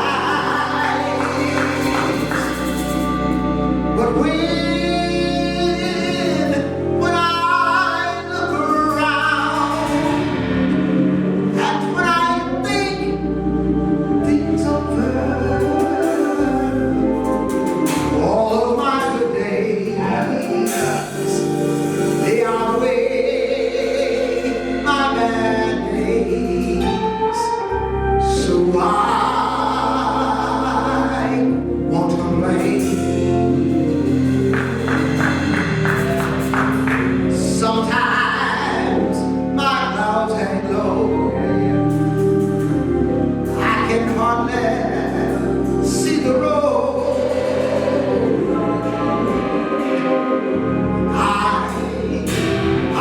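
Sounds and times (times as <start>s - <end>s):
gospel singing: 0.0s - 53.0s
sustained low accompaniment: 0.0s - 53.0s.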